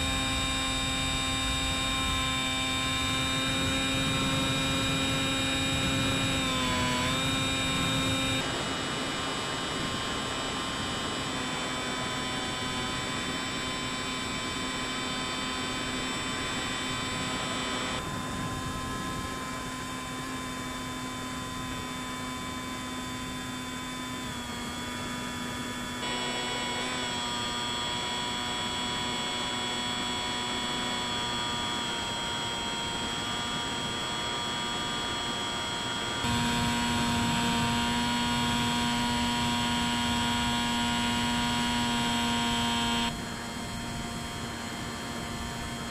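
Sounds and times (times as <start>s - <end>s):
electric motor and propeller whine: 0.0s - 45.9s.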